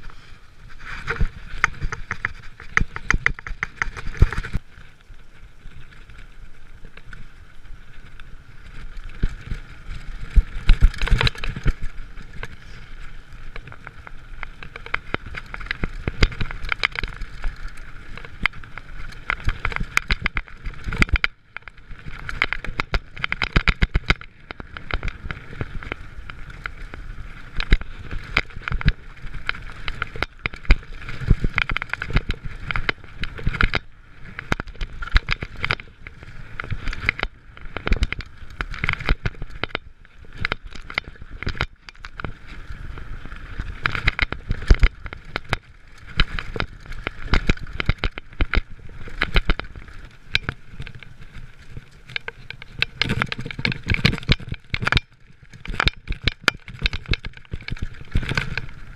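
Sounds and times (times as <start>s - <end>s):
bike rattling over stones: 0.0s - 58.9s
tyre and wind noise: 0.0s - 58.9s.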